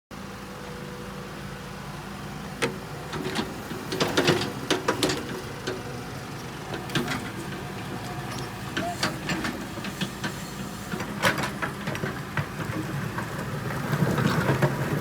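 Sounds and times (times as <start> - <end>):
excavator engine running: 0.2 - 15.0.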